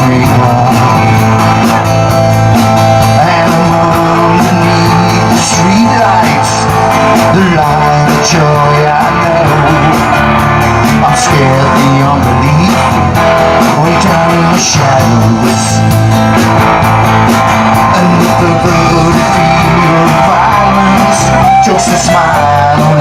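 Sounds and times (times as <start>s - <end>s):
guitar: 0.0s - 23.0s
rock band playing: 0.0s - 23.0s.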